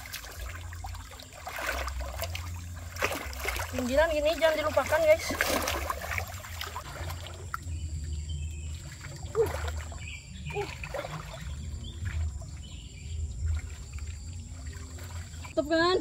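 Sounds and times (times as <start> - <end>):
low steady rumble: 0.0 - 16.0
water trickling: 0.0 - 16.0.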